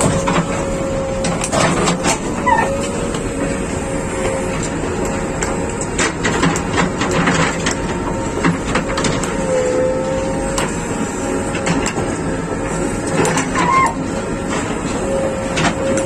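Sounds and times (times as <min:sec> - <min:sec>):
diesel engine whining: 0:00.0 - 0:16.0.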